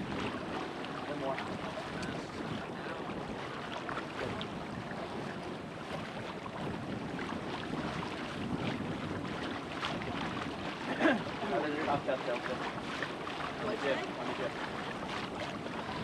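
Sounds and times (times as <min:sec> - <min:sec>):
water rushing past a hull: 0:00.0 - 0:16.0
wind noise on microphone: 0:00.0 - 0:16.0.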